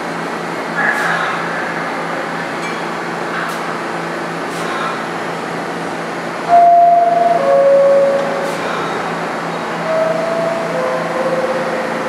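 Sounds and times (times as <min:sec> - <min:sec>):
subway train humming: 0:00.0 - 0:12.0.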